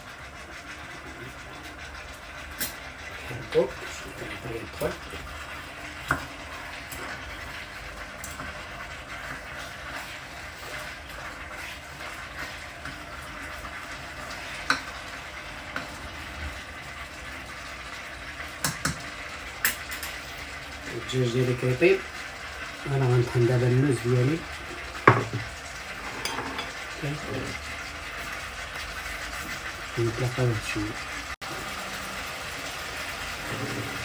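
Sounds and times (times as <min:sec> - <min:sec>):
food sizzling in oil: 0:00.0 - 0:34.0.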